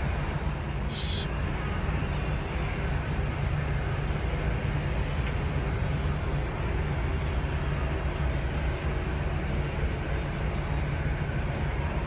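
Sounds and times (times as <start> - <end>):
fire engines rumbling: 0.0 - 12.0.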